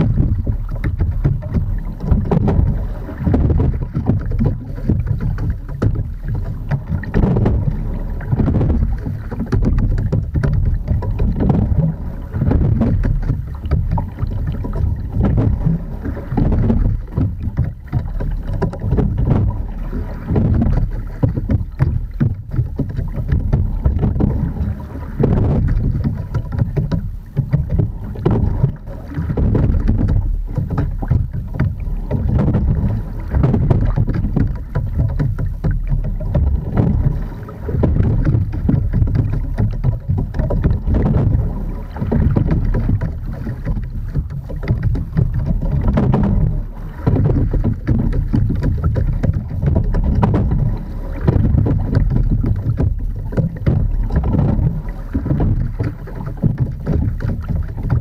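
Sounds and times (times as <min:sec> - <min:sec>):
water splashing along boat hull: 0:00.0 - 0:58.0
wind buffeting microphone: 0:00.0 - 0:58.0.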